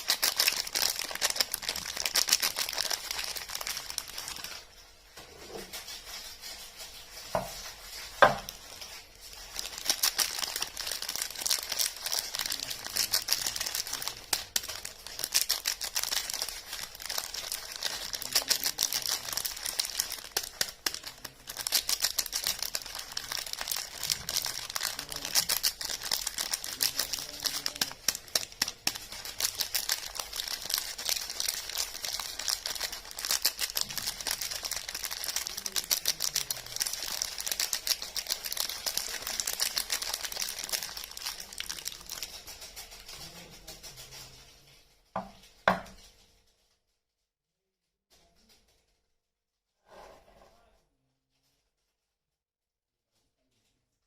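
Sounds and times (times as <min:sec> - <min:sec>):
wrapper crinkling: 0:00.0 - 0:04.9, 0:05.6 - 0:44.4.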